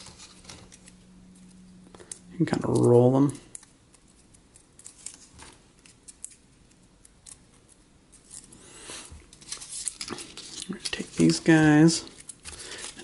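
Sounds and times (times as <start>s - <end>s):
card rustling and ticking: 0.0s - 13.0s.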